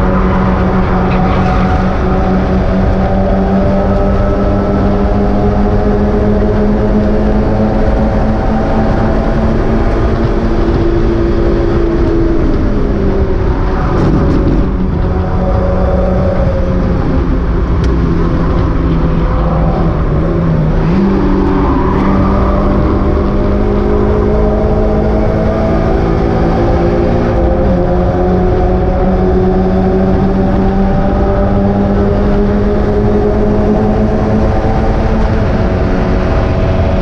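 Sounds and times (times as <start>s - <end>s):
race car engine at high revs: 0.0s - 37.0s.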